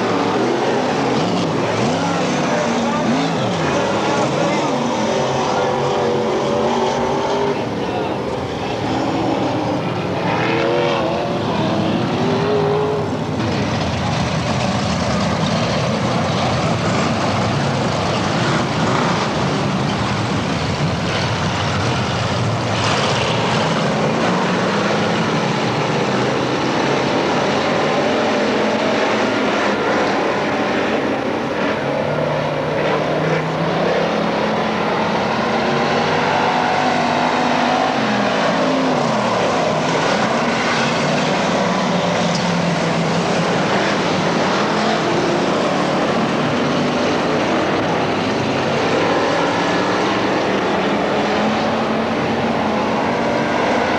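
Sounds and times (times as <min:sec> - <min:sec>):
race car engines: 0:00.0 - 0:53.9.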